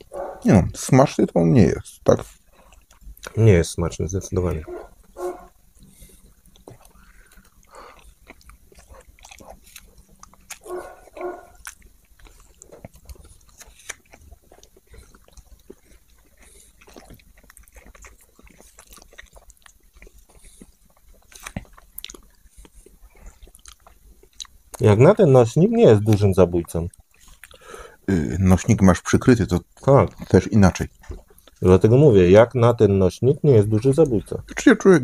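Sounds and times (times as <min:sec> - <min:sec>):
person chewing food: 0:02.0 - 0:25.0, 0:26.0 - 0:28.9, 0:29.7 - 0:32.0.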